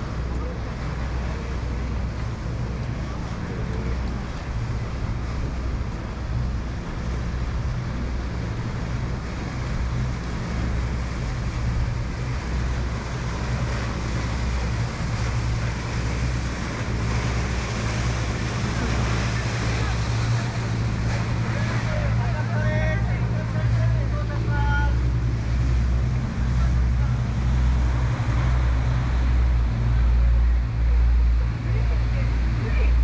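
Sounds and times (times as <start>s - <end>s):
low engine-like hum: 0.0s - 33.0s
rushing wind-like noise: 0.0s - 33.0s.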